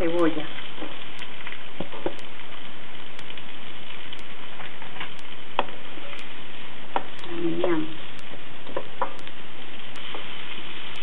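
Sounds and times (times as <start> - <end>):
onions sizzling in butter: 0.0 - 11.0.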